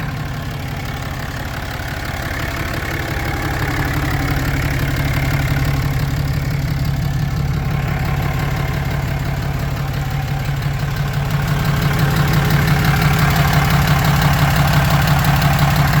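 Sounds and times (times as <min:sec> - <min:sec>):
diesel engine idling: 0:00.0 - 0:16.0
fast knocking from engine: 0:00.0 - 0:16.0.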